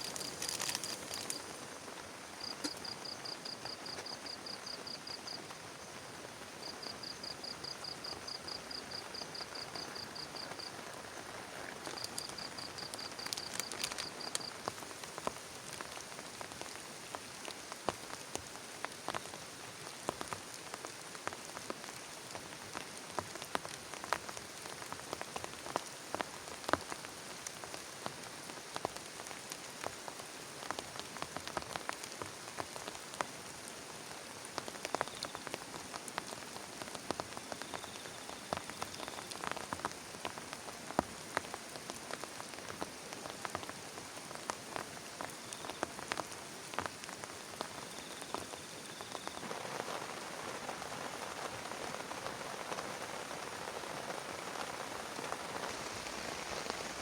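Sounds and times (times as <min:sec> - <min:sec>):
heavy rain on plastic tarp: 0:00.0 - 0:57.0.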